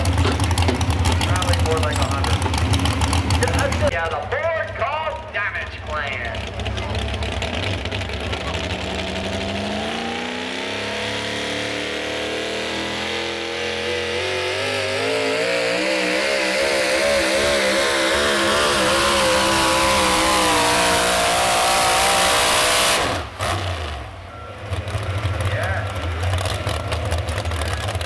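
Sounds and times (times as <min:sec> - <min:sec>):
racing engine at full throttle: 0:00.0 - 0:28.0.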